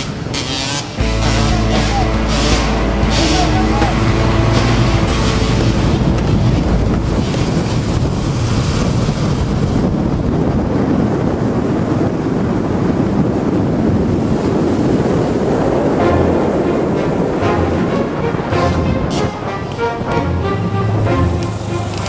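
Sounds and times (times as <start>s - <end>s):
loud rushing noise: 0.0s - 22.0s.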